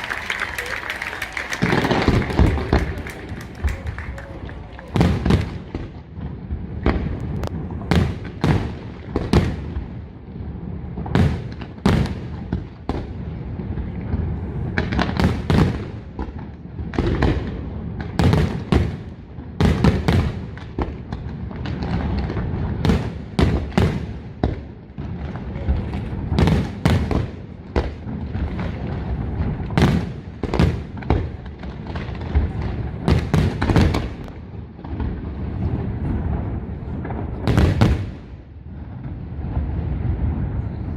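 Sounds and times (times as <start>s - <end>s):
low rumble of fireworks: 0.0s - 40.9s.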